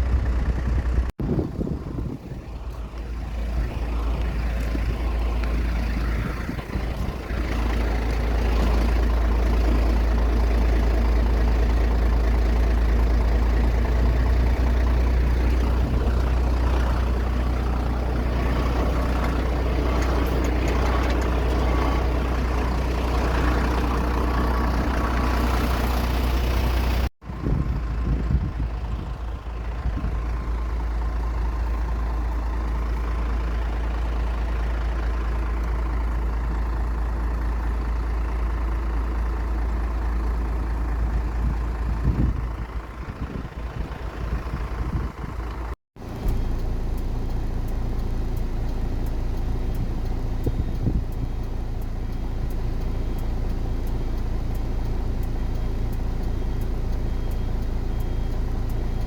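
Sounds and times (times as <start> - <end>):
aircraft engine rumbling: 0.0 - 59.0.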